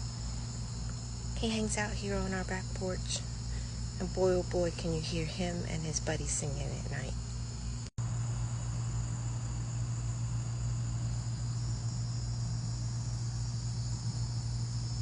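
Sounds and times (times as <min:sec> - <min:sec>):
crickets trilling: 0:00.0 - 0:15.0
low hum: 0:00.0 - 0:15.0.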